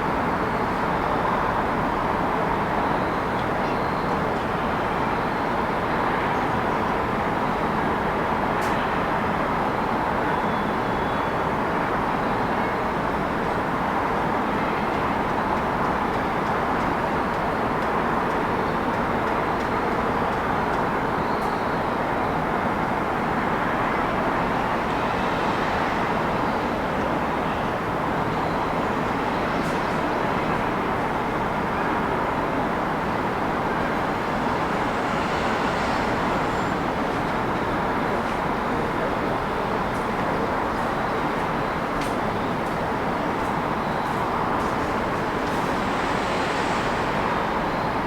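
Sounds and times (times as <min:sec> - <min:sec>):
city road traffic: 0:04.2 - 0:48.0.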